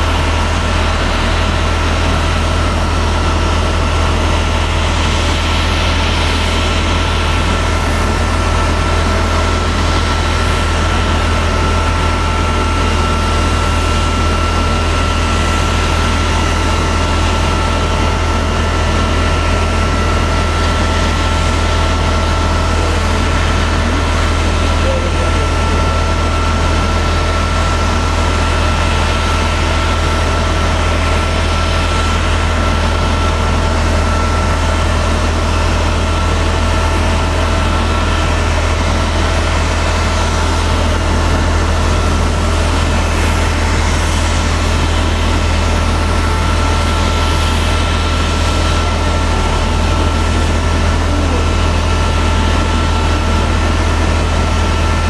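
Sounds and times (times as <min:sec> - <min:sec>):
jet airliner engine drone: 0:00.0 - 0:55.0.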